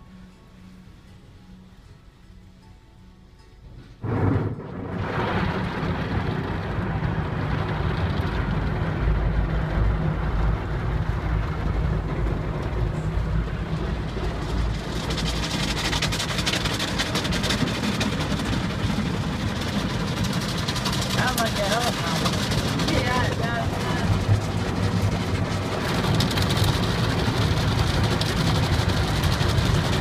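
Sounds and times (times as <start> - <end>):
car wash machinery rumbling: 3.6 - 30.0
water spraying against car: 4.0 - 30.0.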